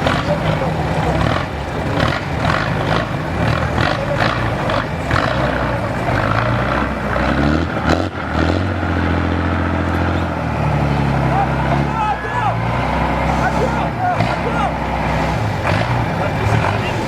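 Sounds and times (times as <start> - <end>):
truck engine revving under load: 0.0 - 17.0.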